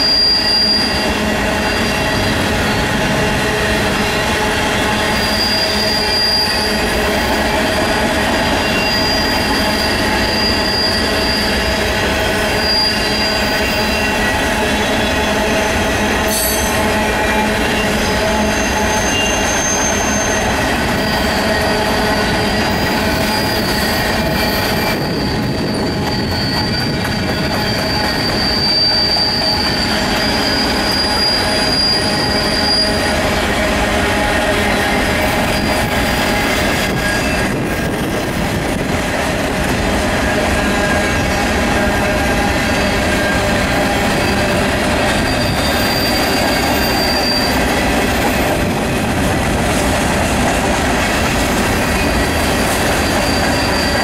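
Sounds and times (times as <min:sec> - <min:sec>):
high wheel squeals: 0:00.0 - 0:54.0
train wheels rumbling on rail: 0:00.0 - 0:54.0.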